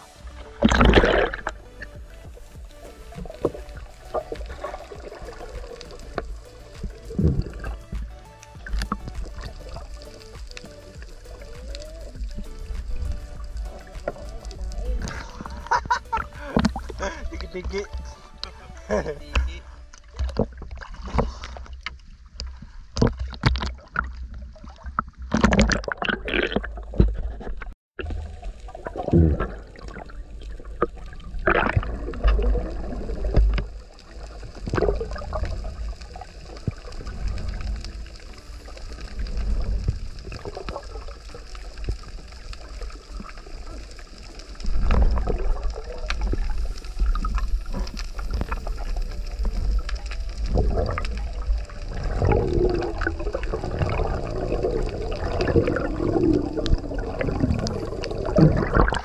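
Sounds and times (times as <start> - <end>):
muffled underwater sloshing: 0.0 - 59.0.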